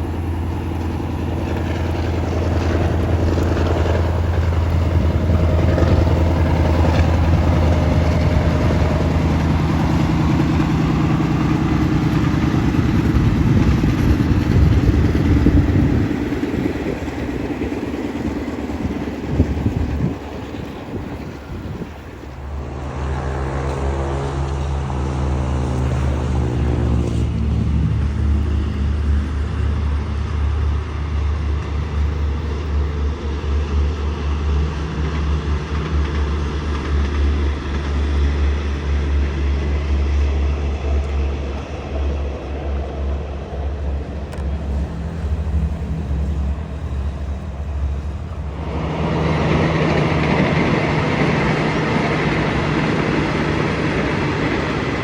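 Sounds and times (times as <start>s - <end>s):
low engine rumble: 0.0s - 55.0s
passing vehicle whine: 0.0s - 55.0s
train rolling on rails: 0.0s - 55.0s.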